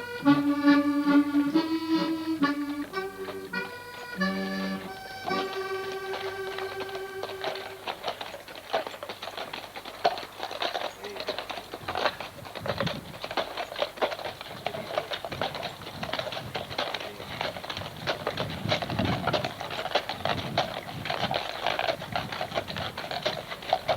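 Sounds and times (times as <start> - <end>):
hooves clopping: 0.0 - 23.9.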